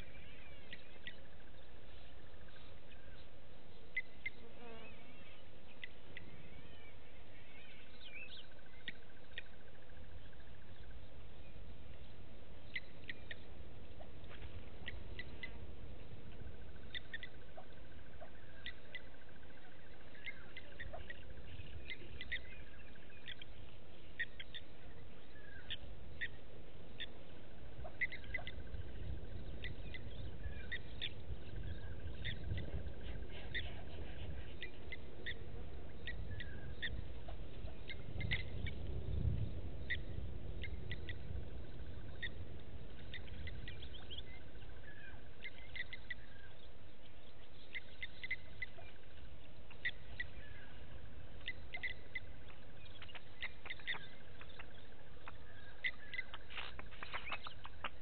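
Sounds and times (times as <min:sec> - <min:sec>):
wild birds chirping: 0:00.0 - 0:58.0.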